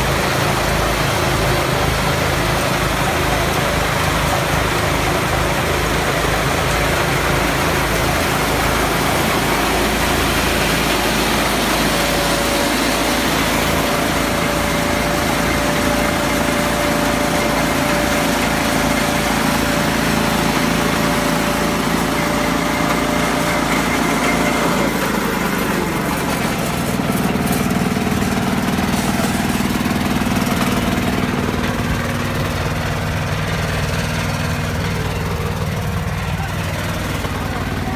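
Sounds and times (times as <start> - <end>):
combine harvester running: 0.0 - 37.9.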